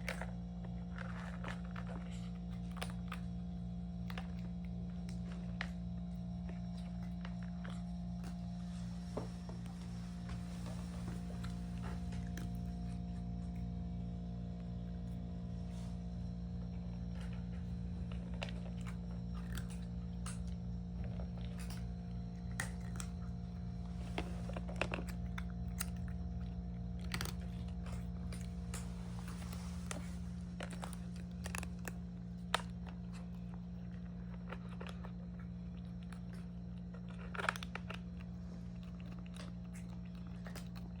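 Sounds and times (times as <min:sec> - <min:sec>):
kittens crunching food: 0:00.0 - 0:41.0
low steady hum: 0:00.0 - 0:41.0.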